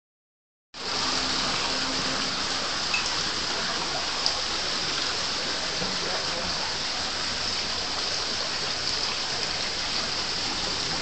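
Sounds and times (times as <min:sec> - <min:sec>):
waterfall splashing into pond: 0:00.8 - 0:11.0.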